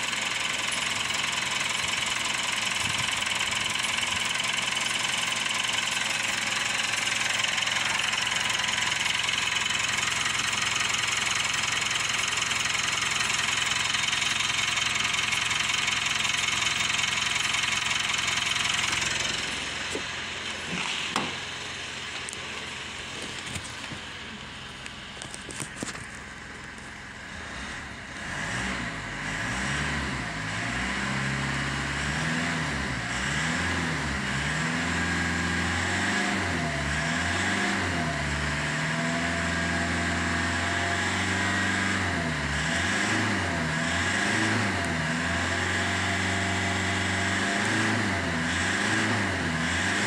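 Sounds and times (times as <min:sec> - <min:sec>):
diesel engine revving: 0:00.0 - 0:50.0.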